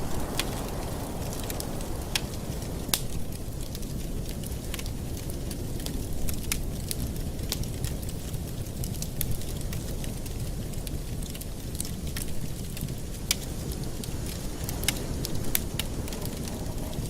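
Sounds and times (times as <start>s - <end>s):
fire rushing: 0.0s - 17.0s
wood fire crackling: 0.0s - 17.0s.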